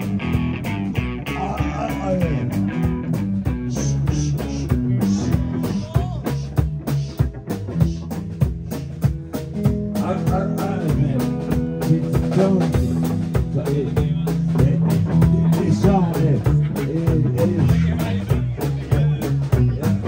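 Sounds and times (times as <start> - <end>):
live rock band: 0.0 - 20.0
man singing: 1.2 - 20.0.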